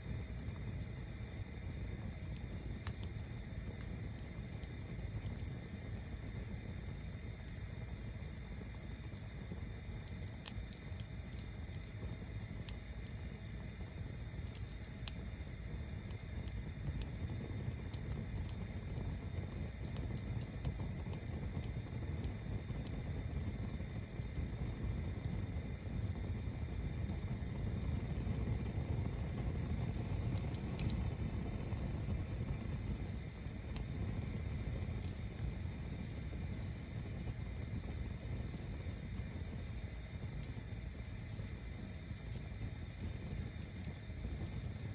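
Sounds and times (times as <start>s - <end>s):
bonfire rumbling: 0.0s - 44.9s
fire crackling and popping: 0.0s - 44.9s.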